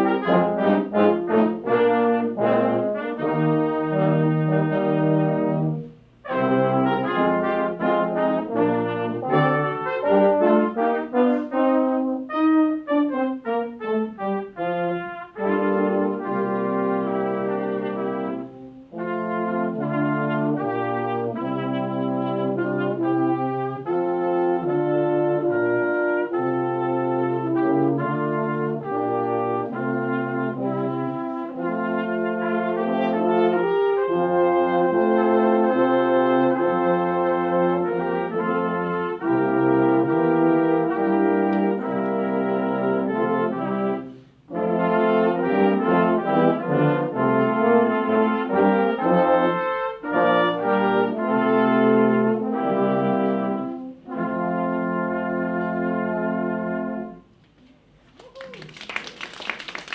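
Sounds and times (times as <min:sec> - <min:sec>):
brass ensemble playing: 0:00.0 - 0:57.5.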